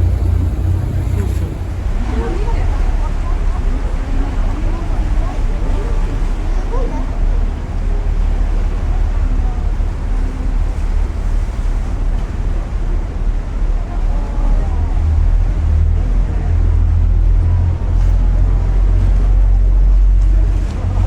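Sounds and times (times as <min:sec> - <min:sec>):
faint voices: 0:00.0 - 0:21.0
ship engine rumble: 0:00.0 - 0:21.0
water noise: 0:00.0 - 0:21.0
wind: 0:00.0 - 0:21.0.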